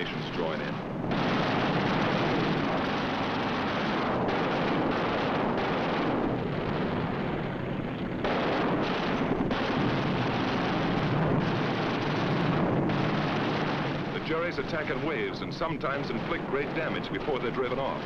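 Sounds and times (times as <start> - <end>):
aircraft engines: 0.0 - 18.0
gunfire: 0.0 - 18.0.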